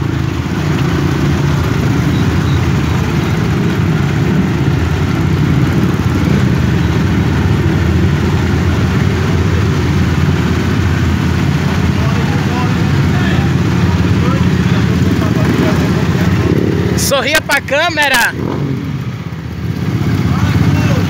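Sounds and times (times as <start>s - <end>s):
motorcycle engines rumbling: 0.0s - 21.0s.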